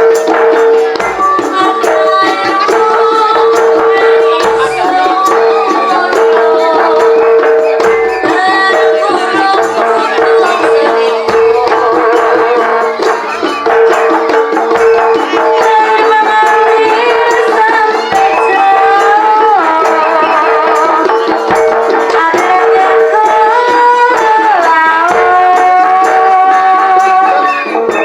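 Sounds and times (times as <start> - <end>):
rattling percussion: 0.0 - 28.0.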